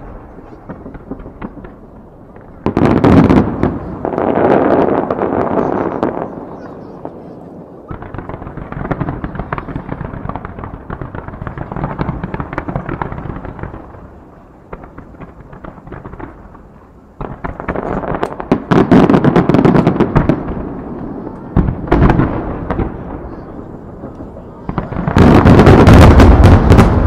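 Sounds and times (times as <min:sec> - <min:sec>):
fireworks launches and bursts: 0:00.0 - 0:27.0
loud firework bangs: 0:00.0 - 0:27.0.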